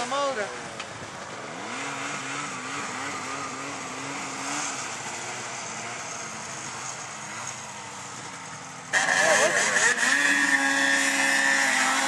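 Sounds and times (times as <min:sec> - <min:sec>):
distant snowmobile engine: 0:00.0 - 0:12.0.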